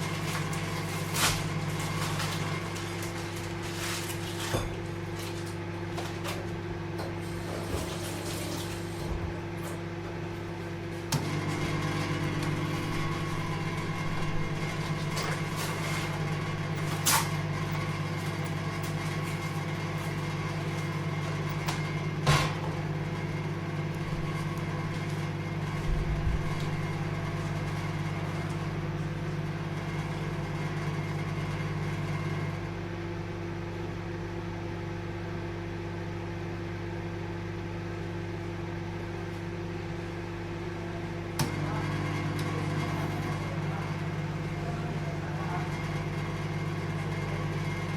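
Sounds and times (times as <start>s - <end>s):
microwave oven humming: 0.0s - 47.9s.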